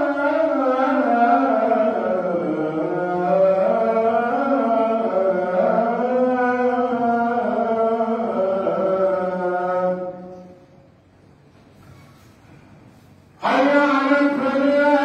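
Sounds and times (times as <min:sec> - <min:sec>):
man chanting call to prayer: 0:00.0 - 0:10.8, 0:13.3 - 0:15.0.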